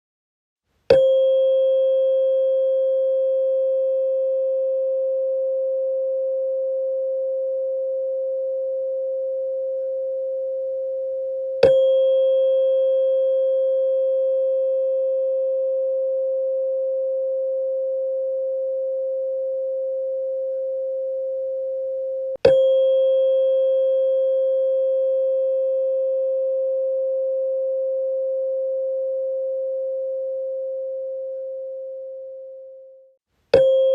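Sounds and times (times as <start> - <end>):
tuning fork ringing: 0.9 - 33.9.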